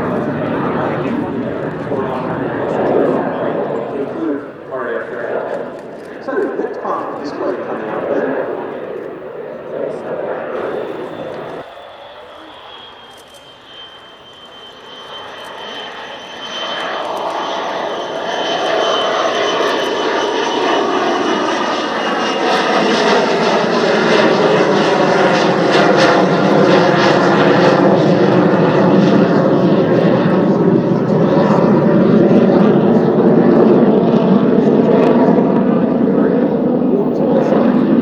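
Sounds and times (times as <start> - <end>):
high jet whine: 0.0 - 38.0
jet aircraft flyby: 0.0 - 38.0.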